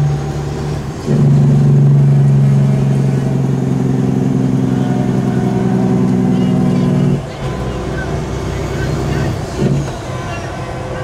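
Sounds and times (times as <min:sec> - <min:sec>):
truck diesel engine droning: 0:00.0 - 0:11.0.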